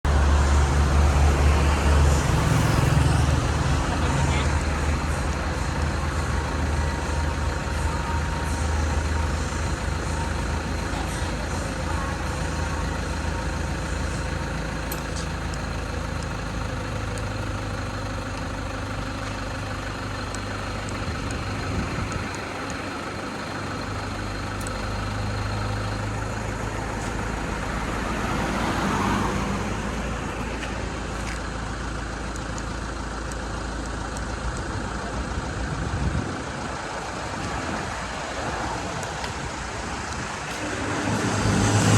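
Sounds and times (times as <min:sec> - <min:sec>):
engine idling: 0:00.0 - 0:41.9
traffic noise: 0:00.0 - 0:41.9.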